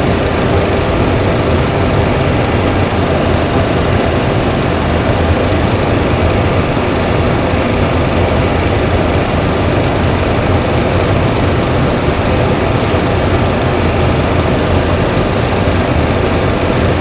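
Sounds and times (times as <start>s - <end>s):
cockpit hum: 0.0s - 17.0s.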